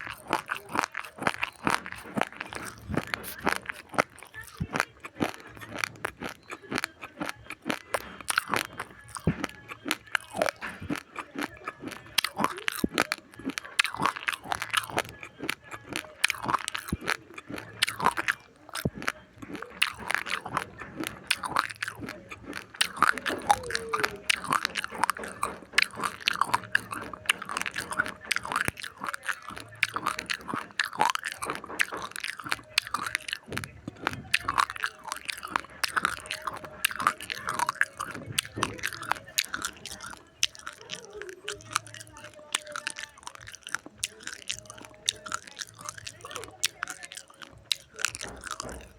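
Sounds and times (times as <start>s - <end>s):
crunching dry rice grains: 0.0s - 48.9s.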